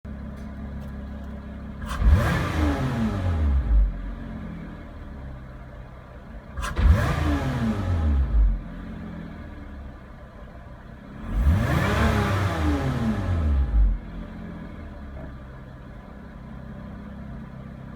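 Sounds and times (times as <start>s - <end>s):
car engine idling and revving: 0.1s - 17.9s.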